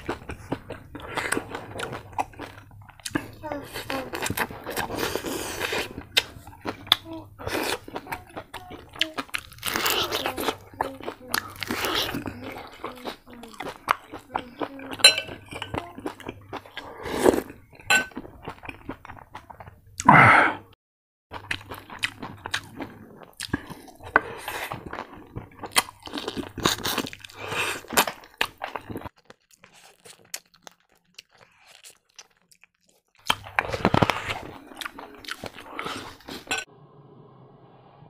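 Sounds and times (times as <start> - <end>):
crunching and chewing: 0.0 - 20.1, 21.3 - 36.7.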